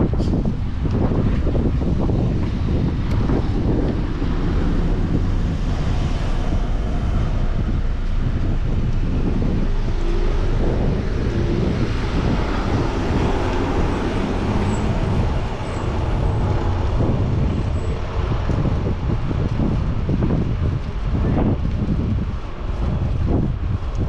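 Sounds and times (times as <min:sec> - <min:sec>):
hum of city traffic: 0:00.0 - 0:24.0
motor vehicles passing: 0:00.0 - 0:24.0
wind buffeting microphone: 0:00.0 - 0:24.0.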